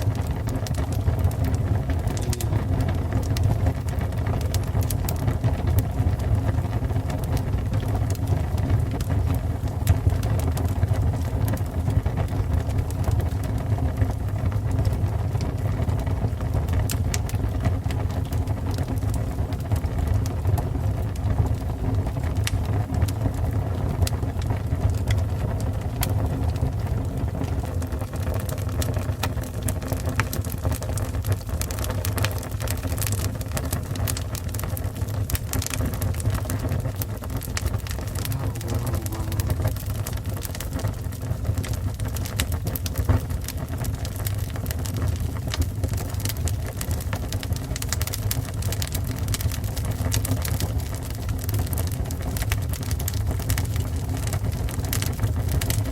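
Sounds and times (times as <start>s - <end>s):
fire crackling and popping: 0.0s - 55.9s
fire rumbling: 0.0s - 55.9s.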